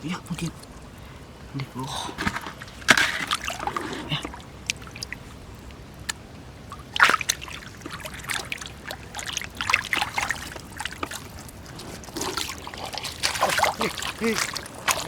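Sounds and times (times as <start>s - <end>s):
shallow water splashing: 2.2s - 15.0s.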